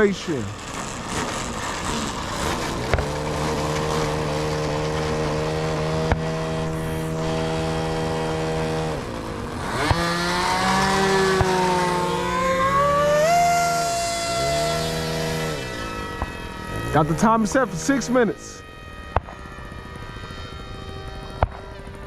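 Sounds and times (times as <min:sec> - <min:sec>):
model airplane engine running: 0:00.0 - 0:22.0.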